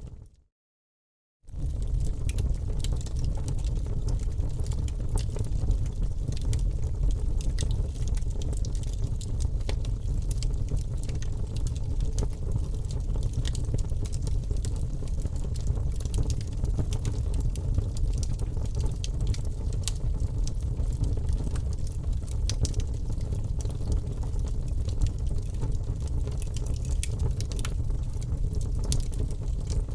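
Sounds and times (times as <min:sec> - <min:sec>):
fire crackling in fireplace: 0:01.5 - 0:29.9.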